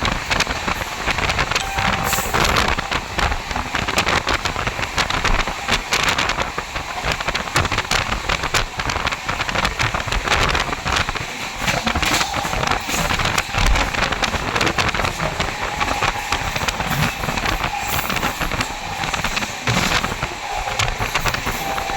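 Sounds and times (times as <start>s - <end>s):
train running at speed: 0.0s - 21.9s.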